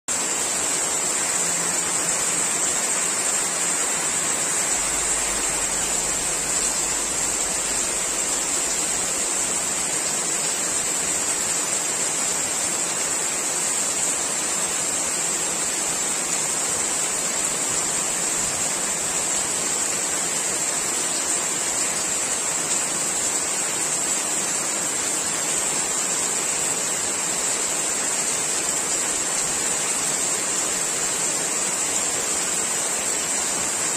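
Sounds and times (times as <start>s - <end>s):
heavy rain on leaves: 0.1s - 33.9s.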